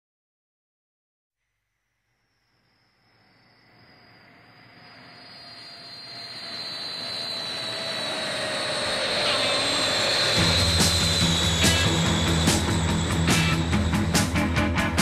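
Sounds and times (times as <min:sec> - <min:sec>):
jet engine rushing whine: 0:02.4 - 0:15.0.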